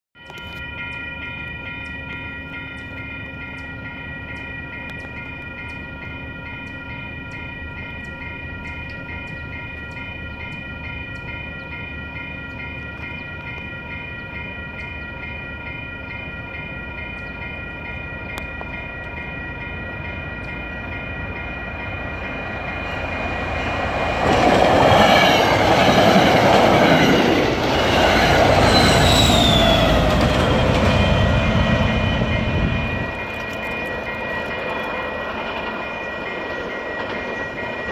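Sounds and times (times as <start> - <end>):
railroad crossing bell ringing: 0.2 - 37.9
train passing: 0.2 - 37.9.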